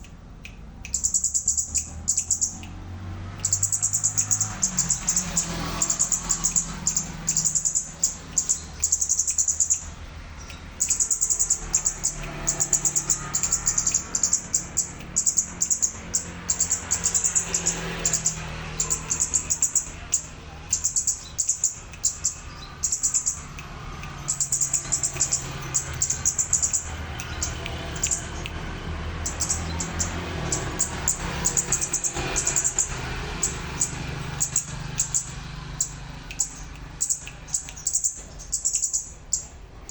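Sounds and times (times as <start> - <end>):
high bird chirps: 0.8 - 39.9.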